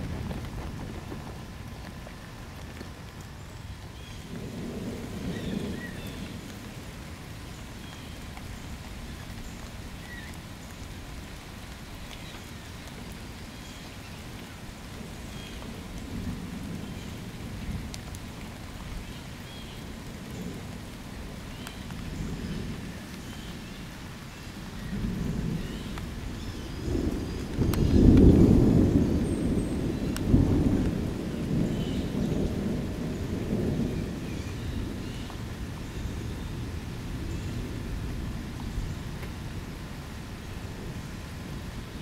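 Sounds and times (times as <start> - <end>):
distant thunder rumbling: 0.0 - 3.0, 3.8 - 11.7, 14.6 - 42.0
outdoor background hiss: 0.0 - 42.0.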